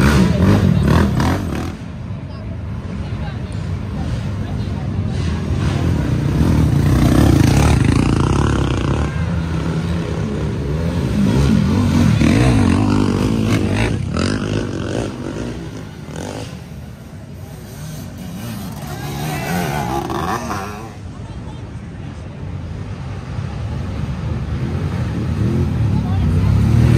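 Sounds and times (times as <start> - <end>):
atv engines revving: 0.0 - 26.9
people's voices: 0.0 - 26.9.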